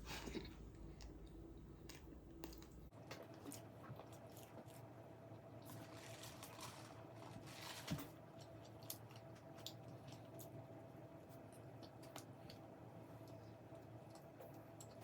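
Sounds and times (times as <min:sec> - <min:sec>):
person chewing and crunching food: 0:00.1 - 0:15.0.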